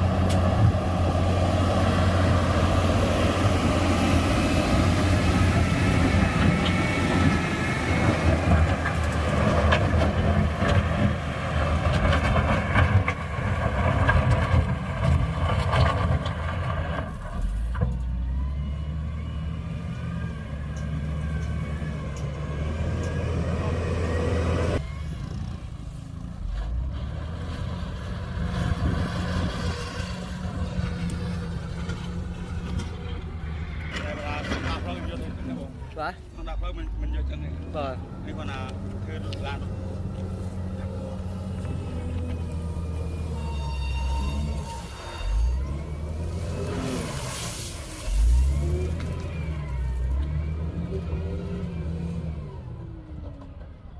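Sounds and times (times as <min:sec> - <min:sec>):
heavy diesel machinery engine: 0:00.0 - 0:53.9.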